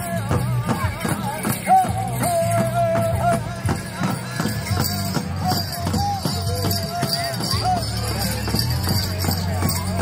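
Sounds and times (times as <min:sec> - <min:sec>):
drum beating quick rhythm: 0:00.0 - 0:10.0.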